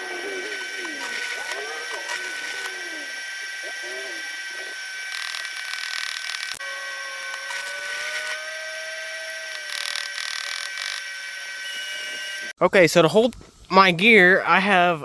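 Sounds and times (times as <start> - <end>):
power tool whining on metal: 0.0 - 12.5.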